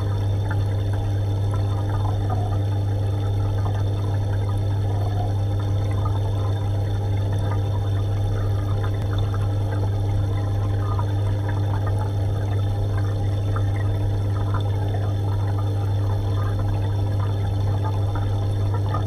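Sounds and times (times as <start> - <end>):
aquarium pump humming: 0.0 - 19.0
water trickling and bubbling: 0.0 - 19.0.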